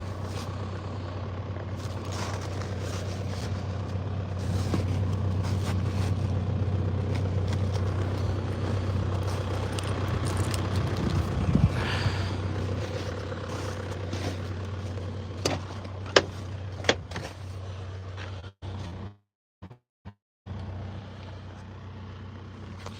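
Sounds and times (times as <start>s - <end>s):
vehicle engine humming: 0.0s - 19.8s, 20.5s - 22.9s.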